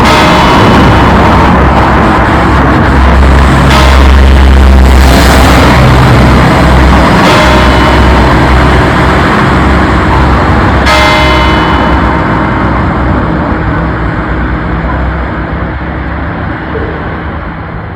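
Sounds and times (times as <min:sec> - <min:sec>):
bell striking: 0:00.0 - 0:04.7, 0:05.3 - 0:15.1
low rumble: 0:00.0 - 0:17.9.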